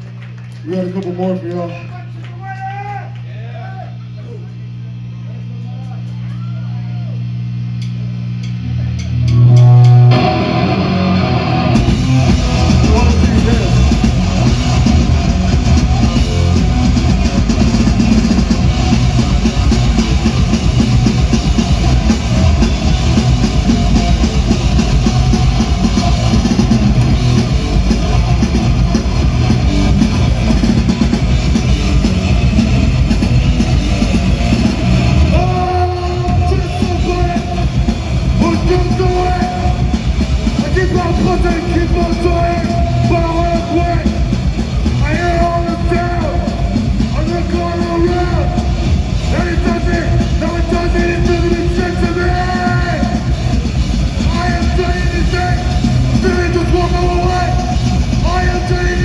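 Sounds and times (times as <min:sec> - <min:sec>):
live rock band playing: 0:08.6 - 0:59.0.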